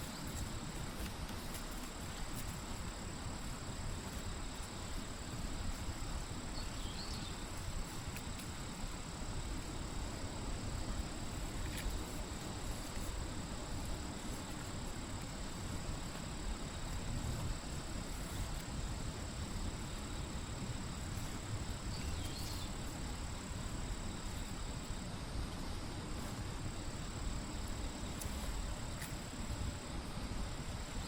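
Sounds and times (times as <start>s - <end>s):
insects trilling: 0.0s - 31.0s
low rumbling background noise: 0.0s - 31.0s.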